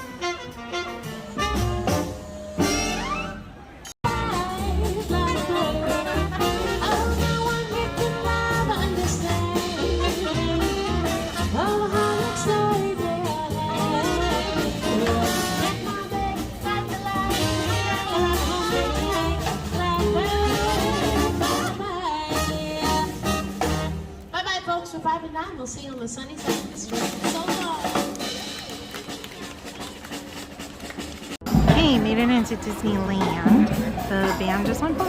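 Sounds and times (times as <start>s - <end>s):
swing band playing jazz: 0.0s - 24.3s, 26.2s - 35.0s.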